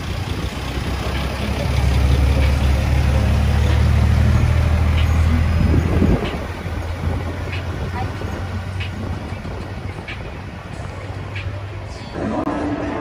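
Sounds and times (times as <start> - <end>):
truck diesel engine driving past: 0.0 - 12.2.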